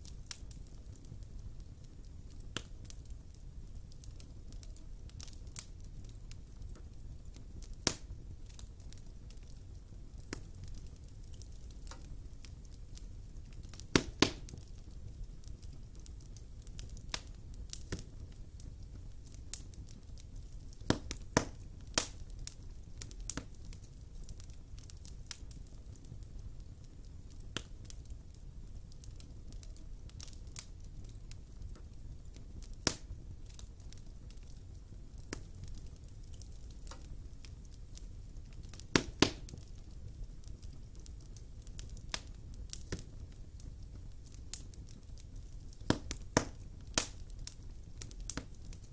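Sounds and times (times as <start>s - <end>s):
fire popping and crackling: 0.0s - 48.9s.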